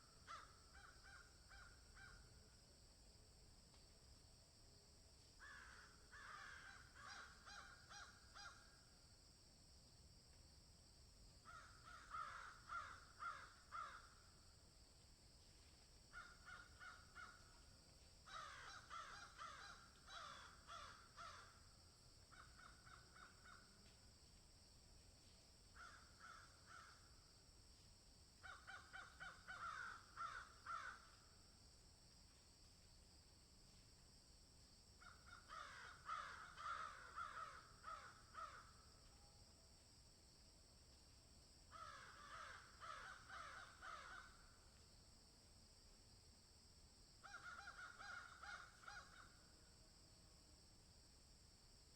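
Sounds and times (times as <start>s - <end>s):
steady high-pitched hiss: 0.0s - 51.9s.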